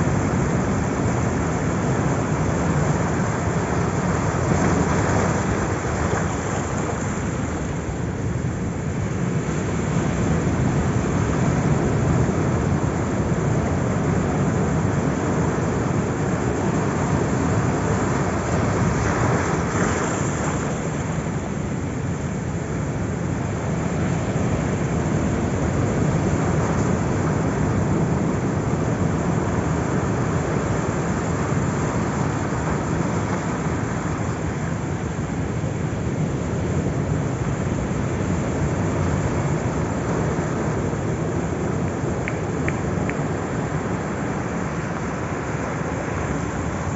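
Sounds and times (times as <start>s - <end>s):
sea surf waves washing: 0.0s - 46.9s.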